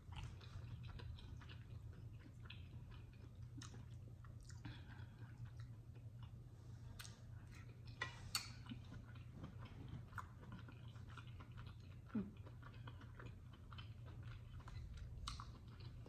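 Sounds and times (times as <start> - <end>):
wet chewing and mouth smacks: 0.0 - 16.0.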